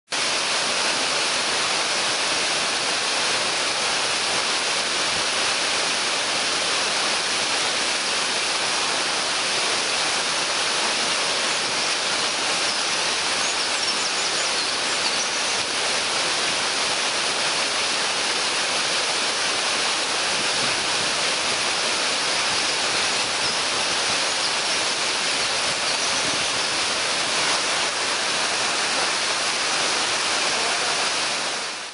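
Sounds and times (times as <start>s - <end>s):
waterfall splashing into pool: 0.1s - 31.9s.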